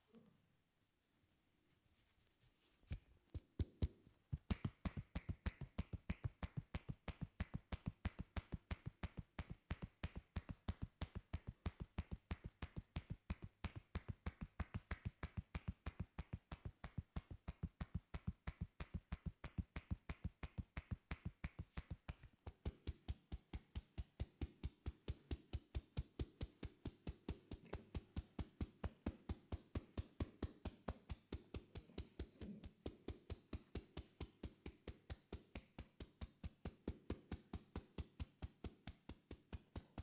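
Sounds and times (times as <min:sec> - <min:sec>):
hands slapping on head: 0:02.8 - 0:40.0.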